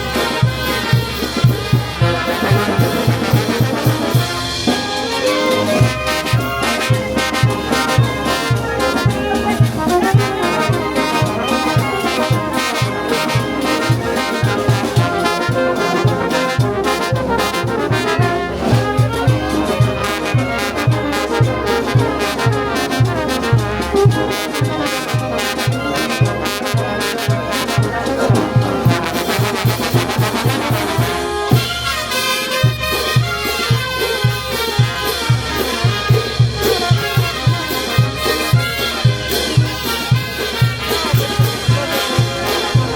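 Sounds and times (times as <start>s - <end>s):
brass band playing: 0.0s - 42.9s
low drum beat: 0.0s - 42.9s
trumpets and trombones: 0.0s - 42.9s.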